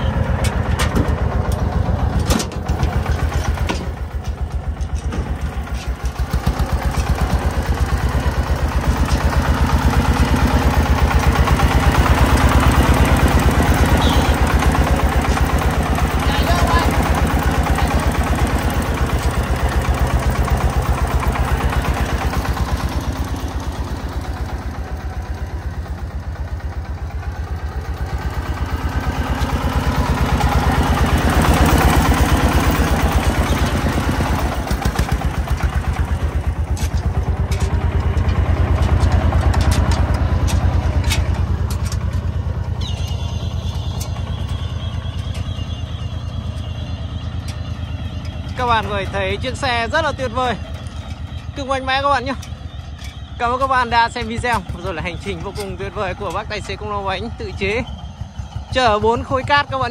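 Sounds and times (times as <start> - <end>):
diesel truck engine chugging: 0.0 - 59.9.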